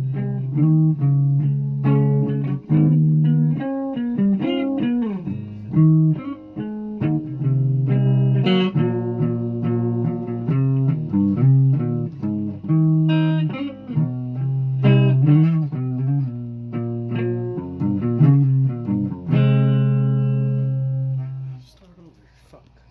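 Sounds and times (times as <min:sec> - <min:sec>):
plucked guitar notes: 0:00.0 - 0:21.6.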